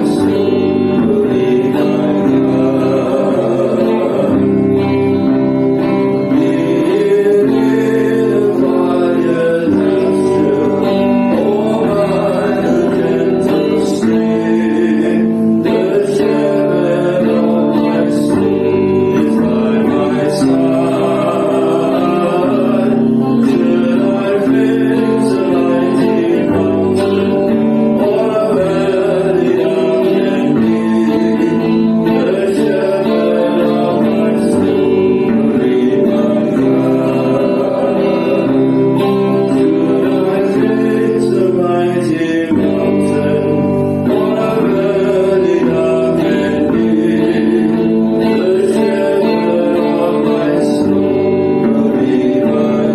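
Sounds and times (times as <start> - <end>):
guitar accompaniment: 0.0 - 52.9
person singing worship song: 0.0 - 52.9.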